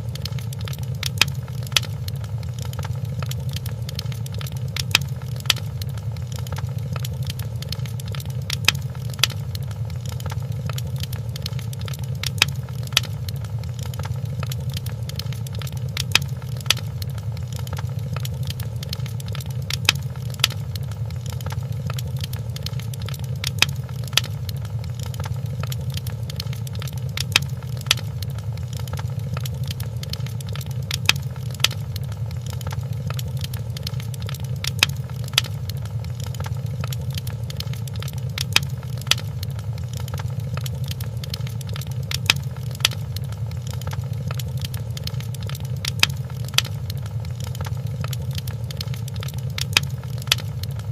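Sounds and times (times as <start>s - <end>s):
fireplace crackling: 0.0s - 50.9s
sharp pops of fire: 0.1s - 50.8s.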